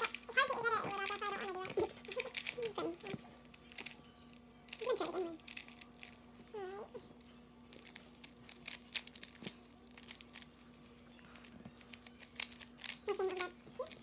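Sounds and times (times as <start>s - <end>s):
plastic puzzle clicking: 0.0s - 6.2s, 7.7s - 10.7s, 11.8s - 14.0s.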